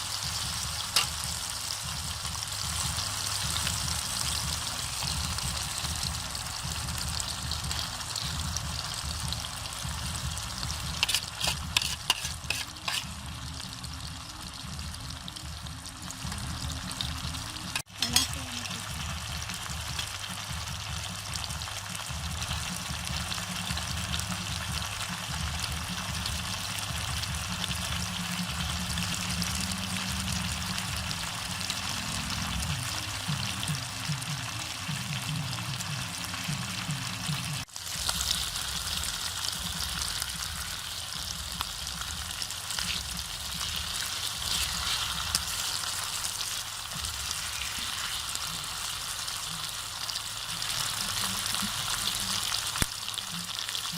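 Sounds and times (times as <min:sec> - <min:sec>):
ribs sizzling in hot oil: 0:00.0 - 0:53.9.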